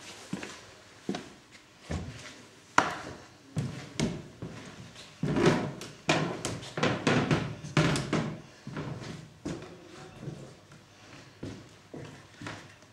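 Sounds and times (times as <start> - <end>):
footsteps echoing in a room: 0.0 - 12.9.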